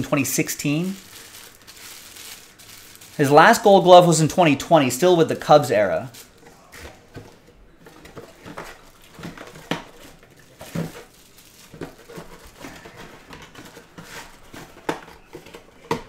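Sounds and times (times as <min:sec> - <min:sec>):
plastic rustling: 0:00.0 - 0:16.0.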